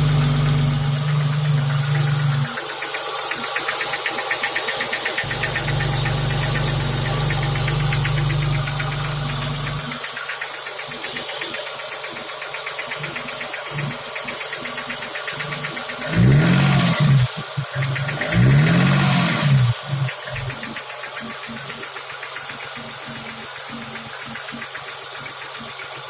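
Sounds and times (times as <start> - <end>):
car engine with regular knock: 0.0 - 26.0.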